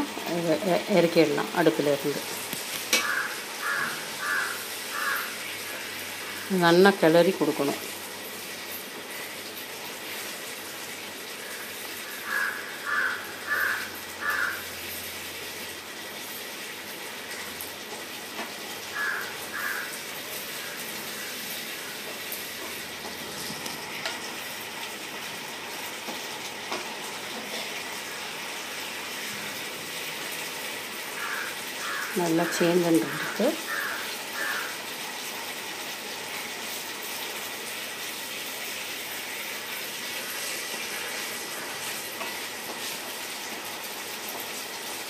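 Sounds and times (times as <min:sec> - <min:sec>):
pickle sizzling in a pan: 0:00.0 - 0:45.0.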